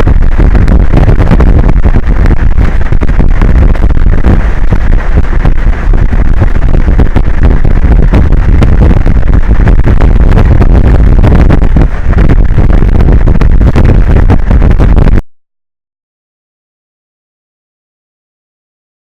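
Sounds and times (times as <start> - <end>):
strong wind buffeting microphone: 0.0 - 15.2.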